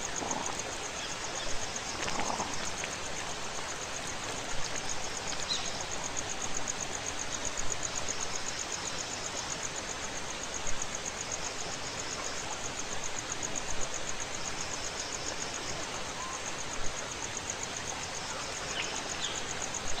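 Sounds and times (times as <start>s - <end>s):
background hiss: 0.0s - 20.0s
crickets chirping: 0.0s - 20.0s.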